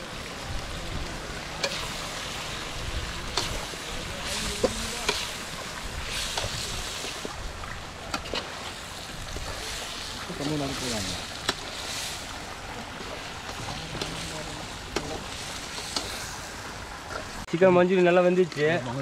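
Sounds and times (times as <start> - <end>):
food frying in oil sizzling: 0.0 - 17.5.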